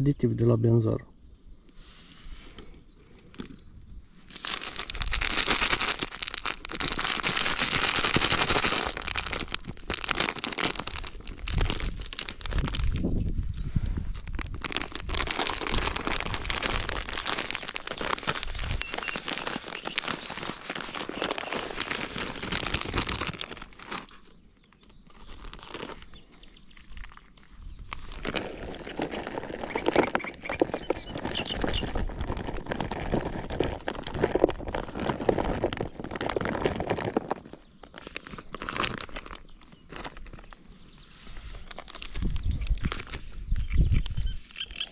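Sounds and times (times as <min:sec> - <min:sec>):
plastic packaging crinkling: 0:04.3 - 0:13.2, 0:14.0 - 0:44.9.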